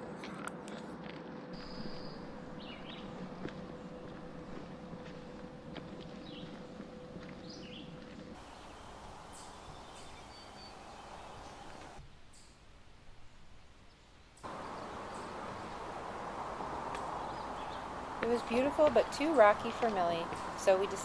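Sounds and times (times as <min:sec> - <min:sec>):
outdoor background hiss: 0:01.6 - 0:21.0.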